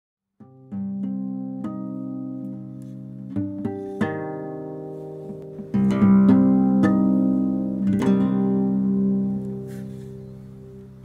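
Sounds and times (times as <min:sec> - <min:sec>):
acoustic guitar strumming chords: 0:00.4 - 0:11.0.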